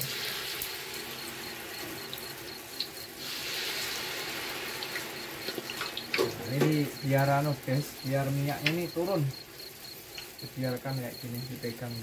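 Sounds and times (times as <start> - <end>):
crickets chirping: 0.0 - 12.0
food sizzling in hot oil: 0.0 - 12.0.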